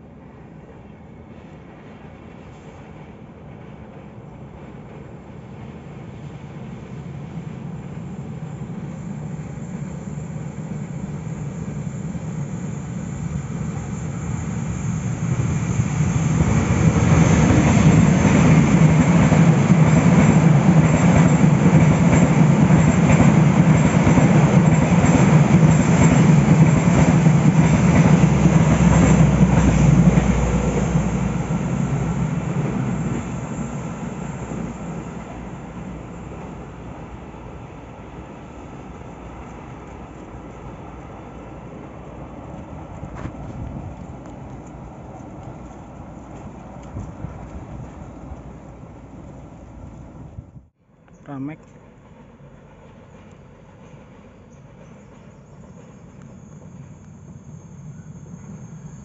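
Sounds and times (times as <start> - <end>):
train passing on rails: 0.0 - 59.0.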